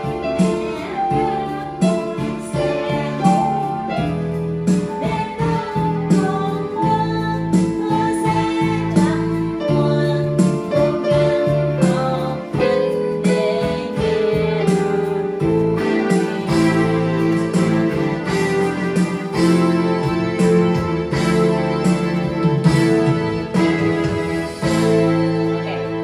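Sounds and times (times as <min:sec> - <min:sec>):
electronic keyboard music: 0:00.0 - 0:26.0.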